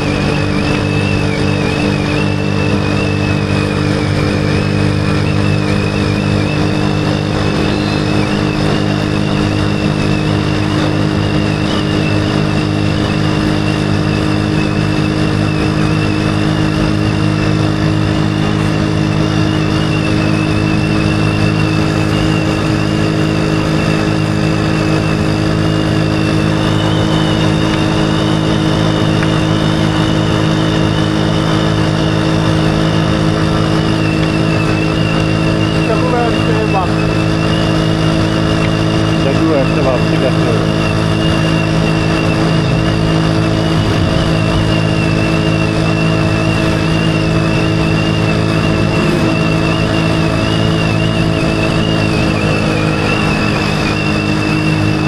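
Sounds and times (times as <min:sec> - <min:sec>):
motorcycle engine humming: 0:00.0 - 0:55.0
thin steady whine: 0:00.0 - 0:55.0.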